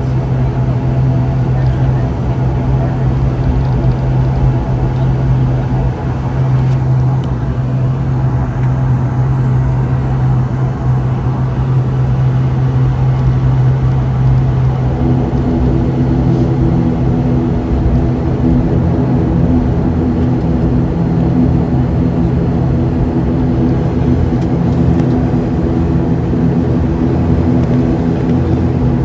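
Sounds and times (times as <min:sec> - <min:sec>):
turboprop engines droning in cabin: 0:00.0 - 0:29.0.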